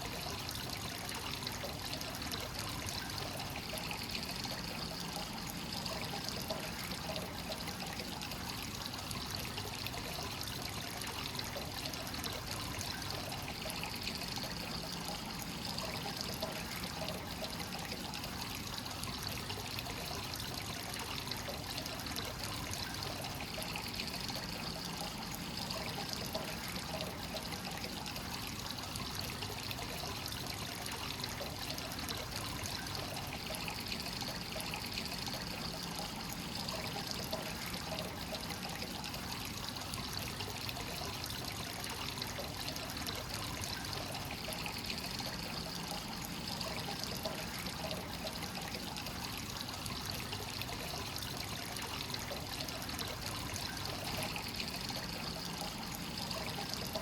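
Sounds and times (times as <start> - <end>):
water pouring into a bath: 0.0 - 57.0.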